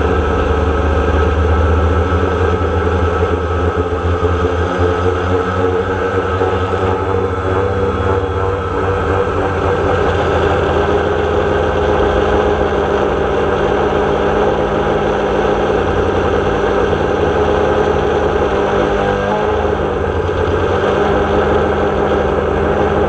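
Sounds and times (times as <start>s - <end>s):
drone motors humming: 0.0s - 23.0s
propeller rushing: 0.0s - 23.0s.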